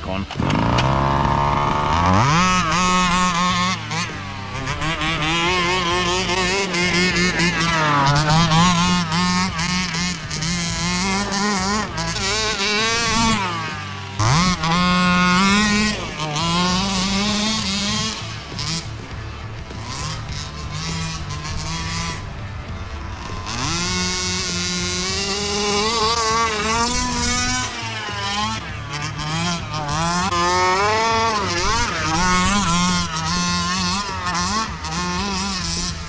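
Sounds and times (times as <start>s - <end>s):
small two-stroke engine revving: 0.0s - 36.0s.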